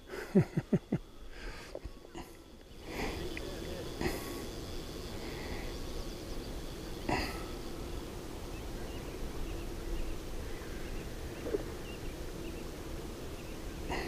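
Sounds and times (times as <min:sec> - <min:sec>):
steady low background noise: 0:00.0 - 0:14.0.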